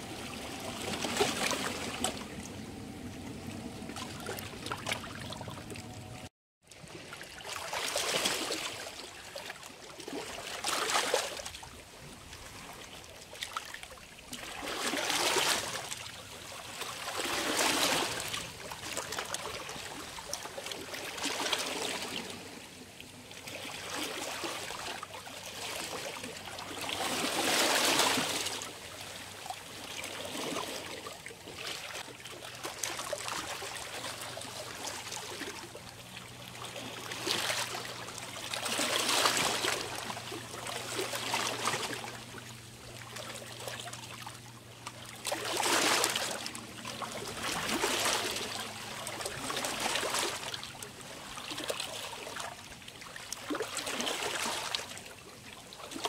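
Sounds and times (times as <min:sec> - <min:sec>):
small sea waves splashing: 0:00.0 - 0:56.0.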